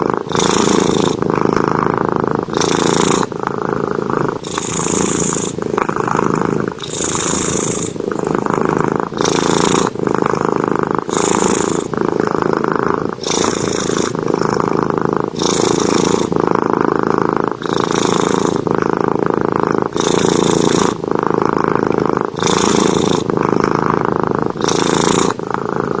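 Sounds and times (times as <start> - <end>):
cat snoring: 0.0 - 26.0.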